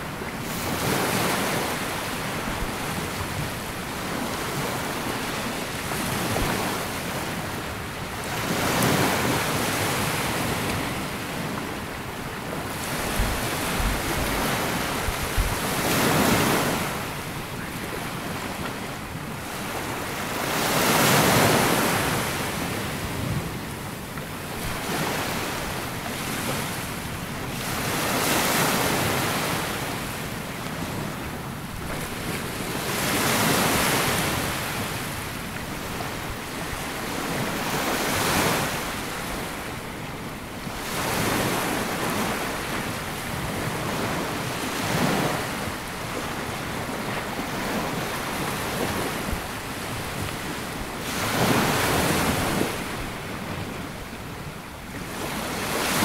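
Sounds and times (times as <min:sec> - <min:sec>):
small sea waves breaking on beach: 0:00.0 - 0:56.0
wind on microphone: 0:00.0 - 0:56.0.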